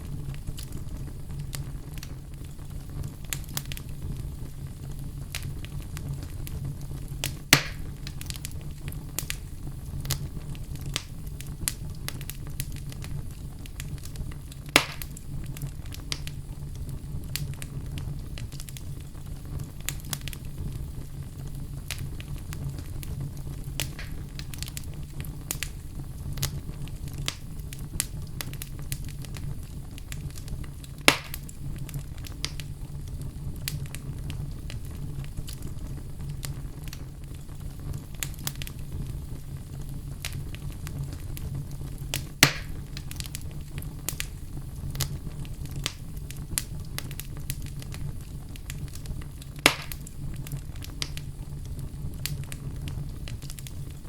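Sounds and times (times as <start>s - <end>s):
loud fire pops: 0.0s - 54.0s
wood fire crackling: 0.0s - 54.0s.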